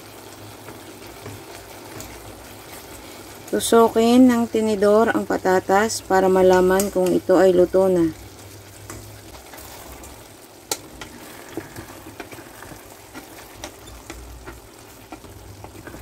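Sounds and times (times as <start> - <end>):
food simmering and sizzling in pot: 0.0 - 16.0.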